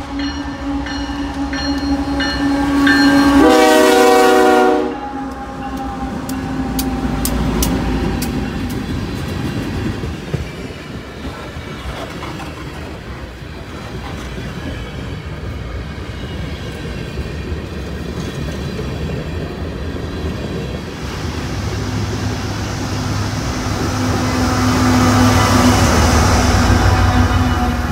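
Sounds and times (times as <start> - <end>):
diesel locomotive engine: 0.0 - 27.9
train wheels rumbling on rail: 0.0 - 27.9.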